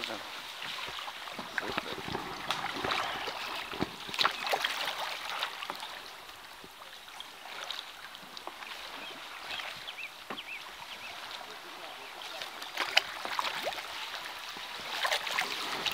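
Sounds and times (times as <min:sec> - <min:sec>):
kayak paddles splashing: 0:00.0 - 0:15.9
river current rushing: 0:00.0 - 0:15.9.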